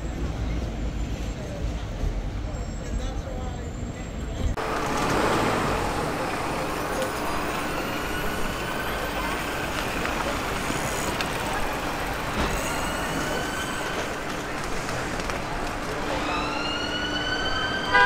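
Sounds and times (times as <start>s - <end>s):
heavy vehicles running: 0.0s - 18.0s.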